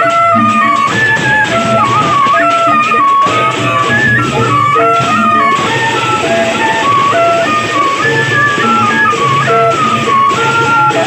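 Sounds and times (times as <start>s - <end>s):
cymbals clashing: 0.0s - 11.0s
flute melody: 0.0s - 11.0s
steady drumming: 0.0s - 11.0s.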